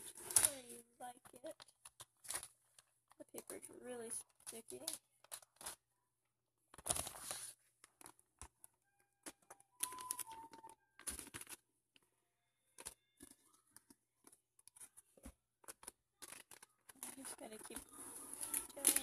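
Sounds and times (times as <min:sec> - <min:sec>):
contact paper rustling and crinkling: 0:00.0 - 0:05.8, 0:06.6 - 0:12.0, 0:12.8 - 0:19.0.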